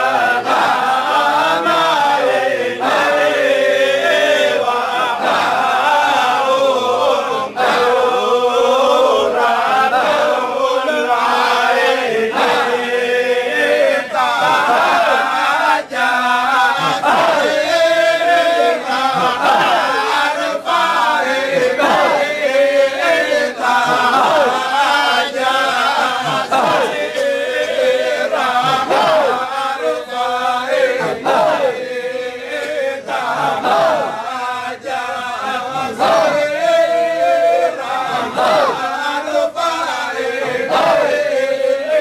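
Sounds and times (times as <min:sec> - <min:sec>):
men chanting in unison: 0:00.0 - 0:42.0.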